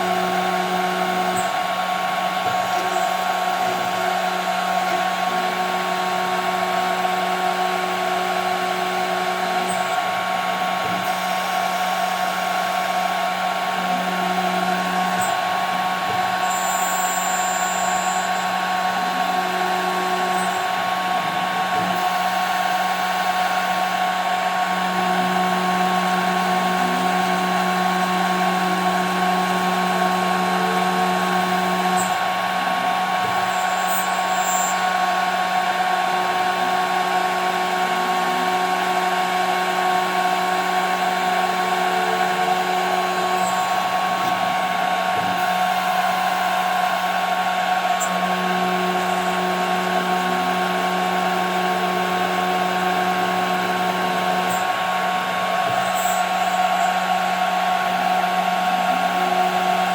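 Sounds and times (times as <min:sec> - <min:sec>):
lower machine hum: 0:00.0 - 0:59.9
router spindle high whine: 0:00.0 - 0:59.9.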